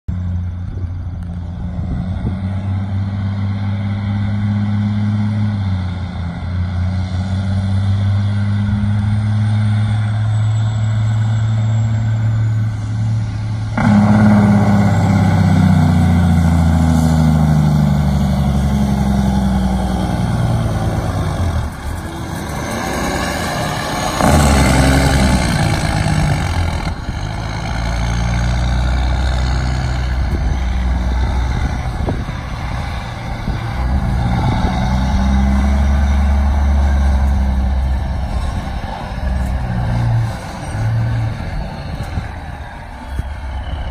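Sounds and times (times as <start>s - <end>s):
truck diesel engine running: 0.1s - 43.9s.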